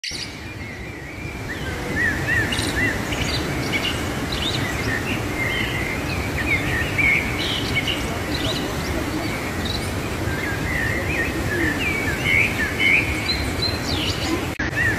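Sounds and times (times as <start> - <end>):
small birds chirping: 0.0 - 14.9
whitewater roaring: 0.4 - 14.9.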